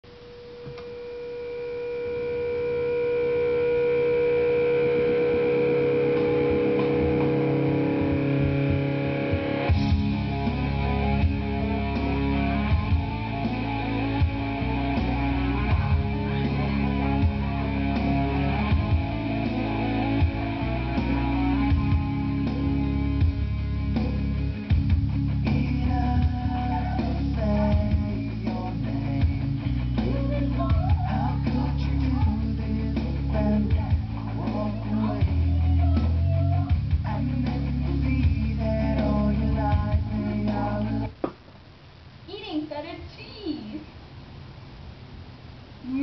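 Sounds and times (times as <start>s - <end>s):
guitar long held notes: 0.3s - 41.2s
band with steady beat: 4.6s - 41.5s.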